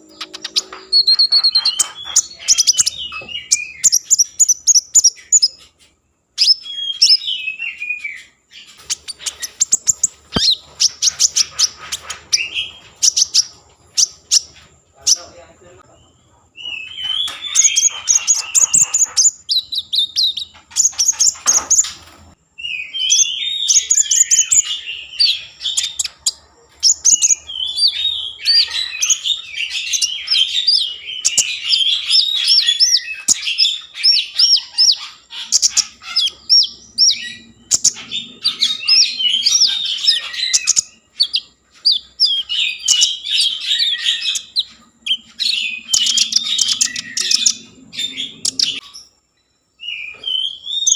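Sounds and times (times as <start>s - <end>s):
songbird singing chirps and trills: 0.0s - 50.9s.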